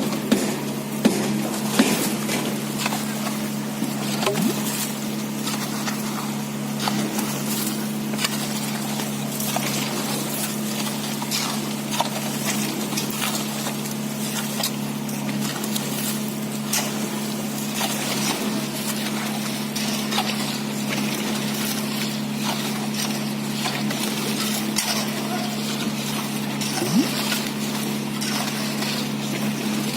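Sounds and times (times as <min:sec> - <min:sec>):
concrete pump droning: 0:00.0 - 0:29.9.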